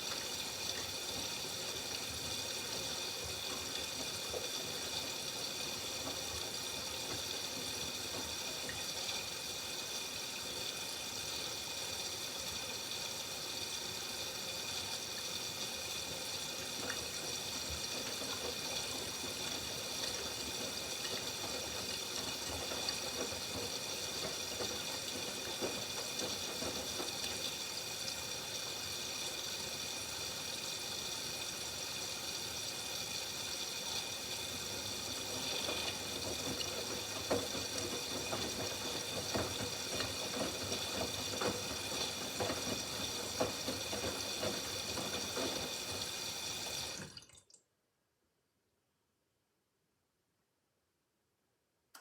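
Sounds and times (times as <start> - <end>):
washing machine taking in water: 0.0 - 47.5.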